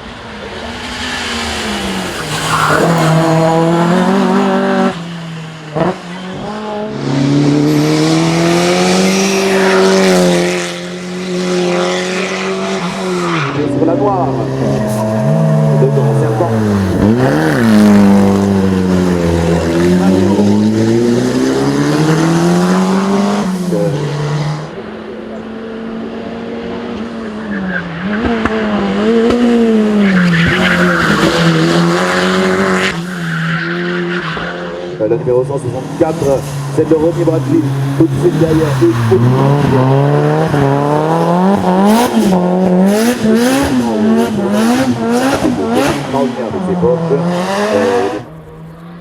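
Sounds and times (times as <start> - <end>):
race car engine at full throttle: 0.0 - 49.0.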